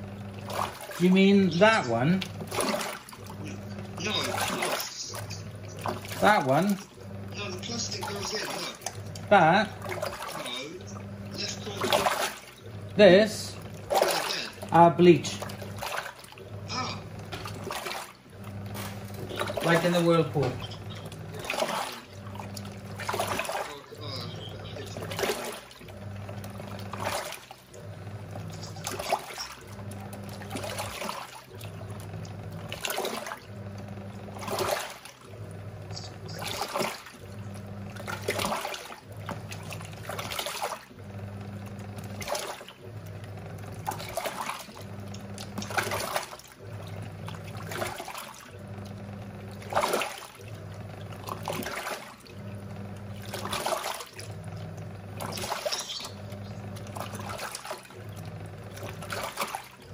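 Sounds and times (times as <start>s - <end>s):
washing machine motor humming: 0.0s - 59.9s
water sloshing in tub: 0.0s - 59.9s.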